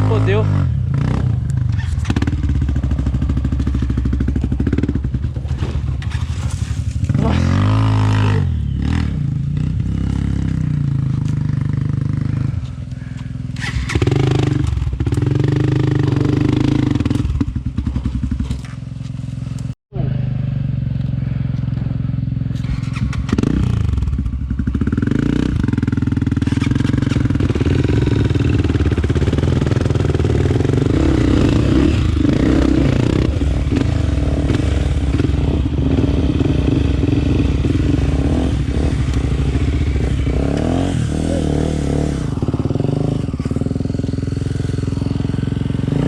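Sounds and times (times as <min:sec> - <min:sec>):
dirt bike engine: 0:00.0 - 0:46.0.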